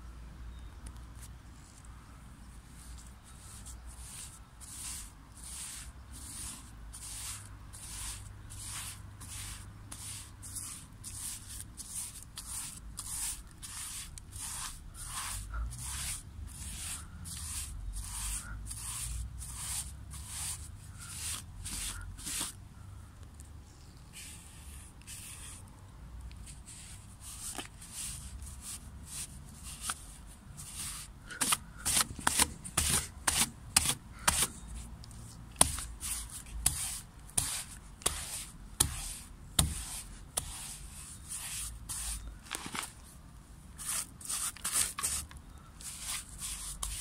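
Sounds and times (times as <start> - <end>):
paintbrush scrubbing on wood: 2.8 - 22.6, 24.1 - 25.7, 26.4 - 34.5, 35.6 - 42.3, 43.8 - 47.0.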